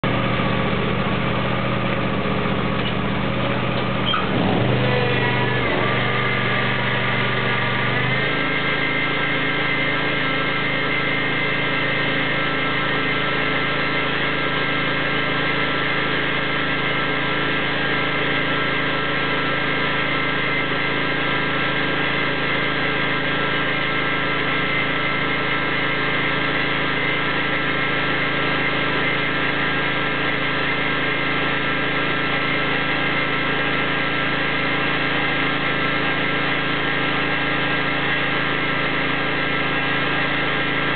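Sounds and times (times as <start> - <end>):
riding mower engine running high: 0.0 - 40.9.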